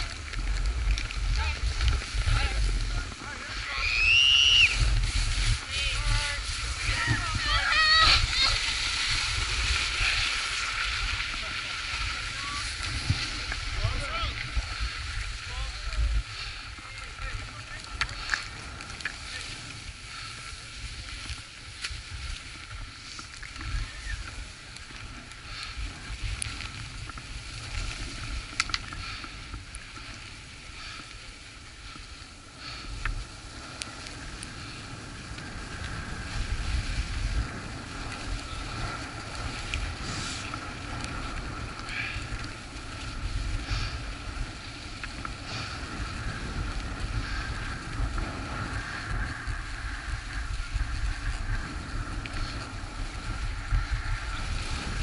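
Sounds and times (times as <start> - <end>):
skis scraping over snow: 0.0 - 55.0
wind rumbling on microphone: 0.0 - 55.0.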